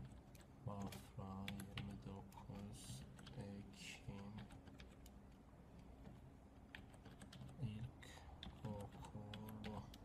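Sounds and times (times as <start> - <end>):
computer keyboard typing: 0.0 - 10.0.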